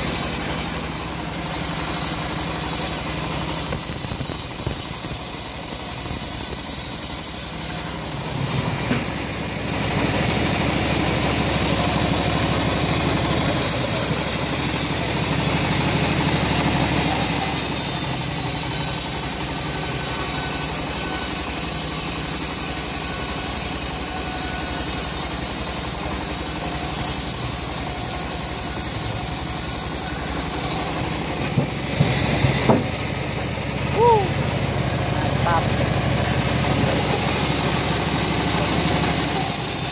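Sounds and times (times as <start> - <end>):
bandsaw rasping through log: 0.0 - 33.0, 34.2 - 39.9.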